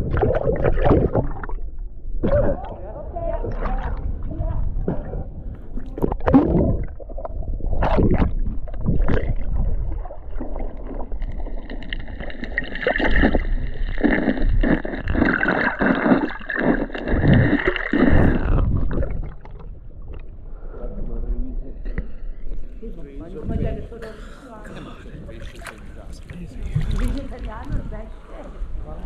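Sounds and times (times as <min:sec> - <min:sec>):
water sloshing and gurgling: 0:00.0 - 0:29.0.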